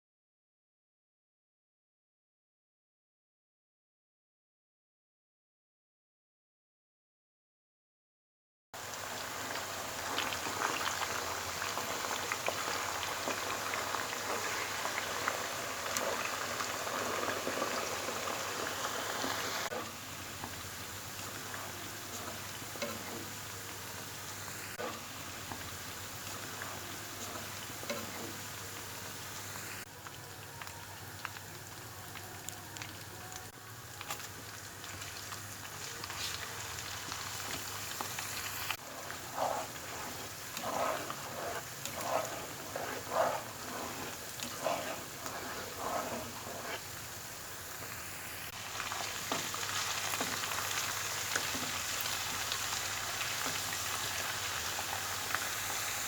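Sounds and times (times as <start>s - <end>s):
chicken crackling in a pan: 8.8s - 56.0s.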